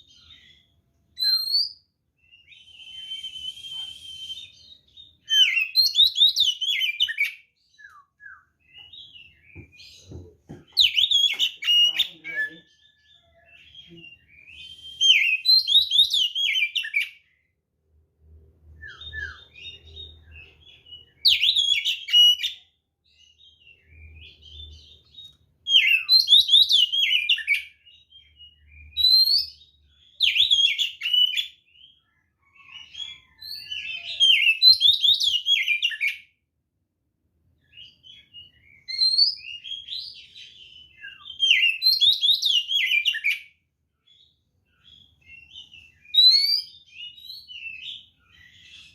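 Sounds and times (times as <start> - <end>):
bird singing whistled phrases: 1.2 - 9.8, 10.8 - 17.2, 18.8 - 22.6, 23.3 - 36.2, 37.8 - 43.5, 44.8 - 48.9.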